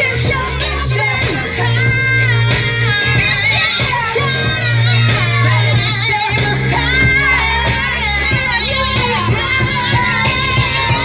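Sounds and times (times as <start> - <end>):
song over loudspeaker: 0.0 - 11.0.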